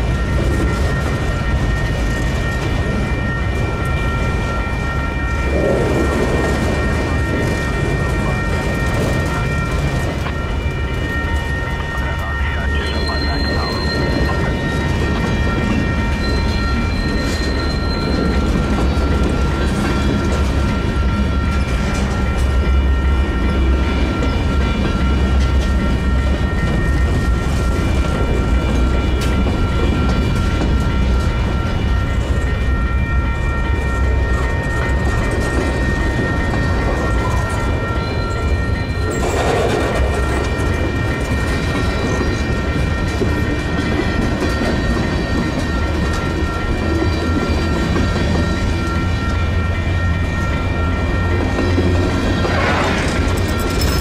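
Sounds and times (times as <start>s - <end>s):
high ringing tones: 0.0s - 54.0s
train cars rumbling over rails: 0.0s - 54.0s.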